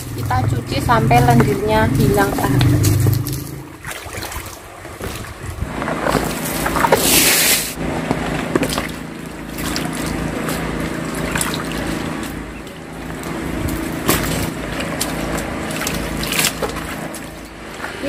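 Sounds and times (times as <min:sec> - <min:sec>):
water sloshing and trickling: 0:00.0 - 0:18.0.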